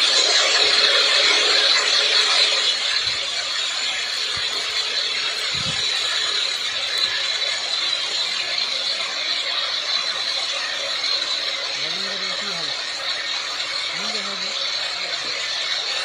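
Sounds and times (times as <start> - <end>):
helicopter engine and rotors whining: 0.0 - 16.0.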